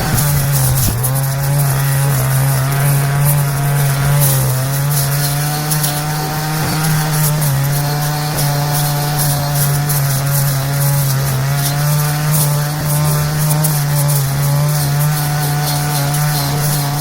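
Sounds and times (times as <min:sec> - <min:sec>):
brush cutter engine running: 0:00.0 - 0:17.0.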